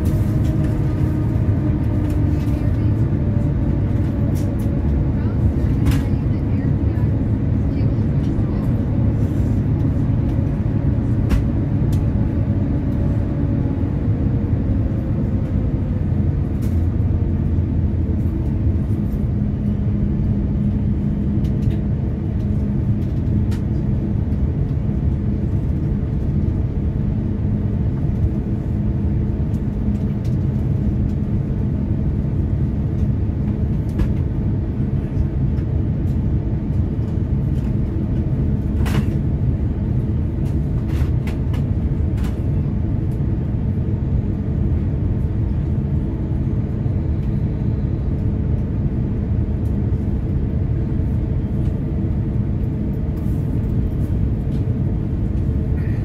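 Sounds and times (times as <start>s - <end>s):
aircraft cabin low rumble: 0.0s - 56.0s.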